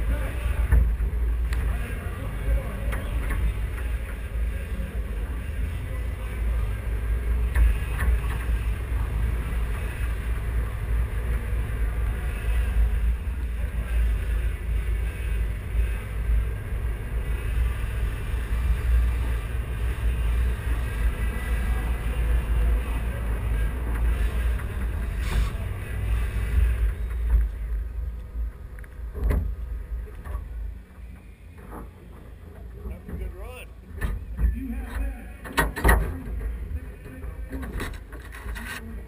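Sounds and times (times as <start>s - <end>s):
pickup truck engine rumbling: 0.0s - 39.0s.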